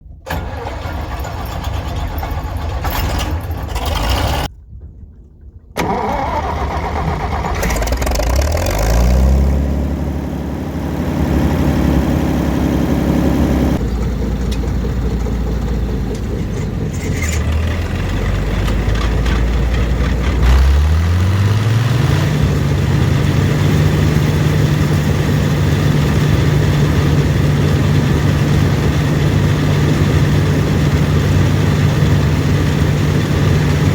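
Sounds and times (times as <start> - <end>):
combine harvester engine running: 0.0 - 4.5, 5.8 - 33.9.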